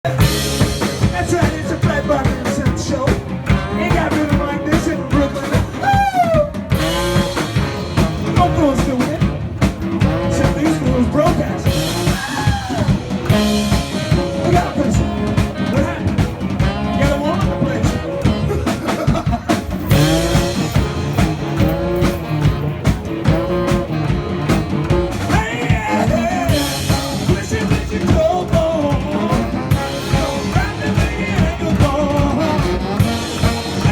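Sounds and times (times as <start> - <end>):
drum kit beat: 0.0 - 33.9
guitar: 0.0 - 33.9
person singing: 0.1 - 9.4, 10.0 - 33.9.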